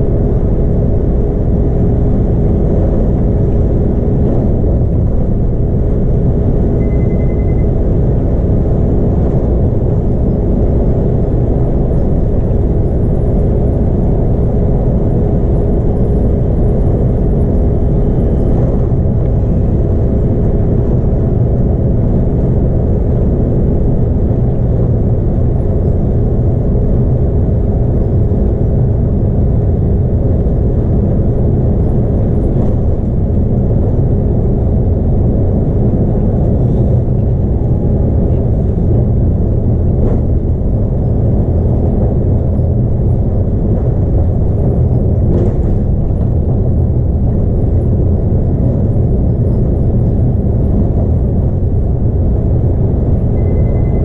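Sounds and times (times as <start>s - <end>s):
bus engine and road rumble: 0.0s - 54.0s
faint steady whine: 0.0s - 54.0s.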